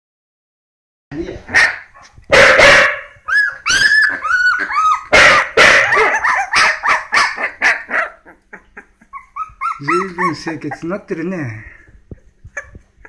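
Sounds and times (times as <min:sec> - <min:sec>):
dogs barking and yelping: 0:01.5 - 0:13.0.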